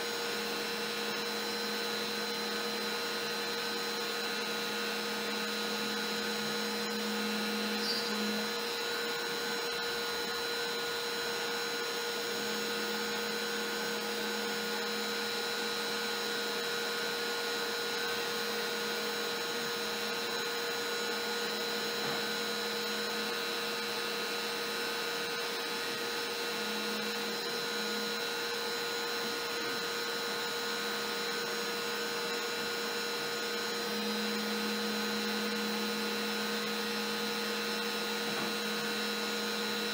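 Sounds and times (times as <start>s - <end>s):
dust collection vacuum running: 0.0s - 39.9s
trim router cutting wood: 0.0s - 39.9s.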